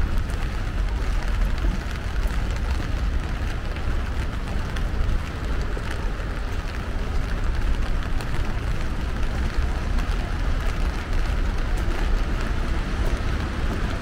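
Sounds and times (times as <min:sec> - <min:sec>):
rain falling: 0:00.0 - 0:14.0
raindrop ticks: 0:00.0 - 0:14.0.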